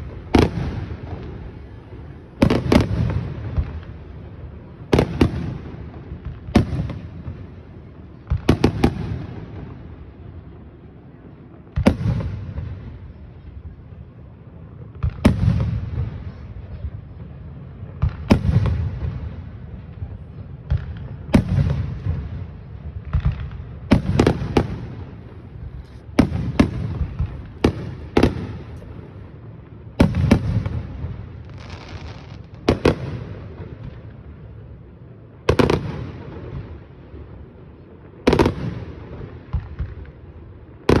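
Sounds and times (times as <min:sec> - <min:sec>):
fireworks booming: 0:00.0 - 0:41.0
low rolling echo: 0:00.0 - 0:41.0.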